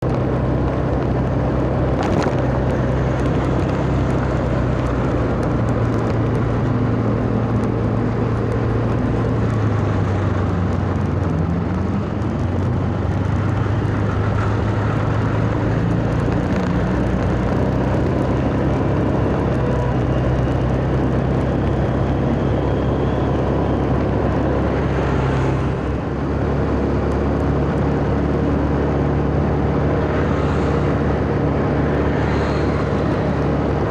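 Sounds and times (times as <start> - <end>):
bus engine running: 0.0 - 33.9.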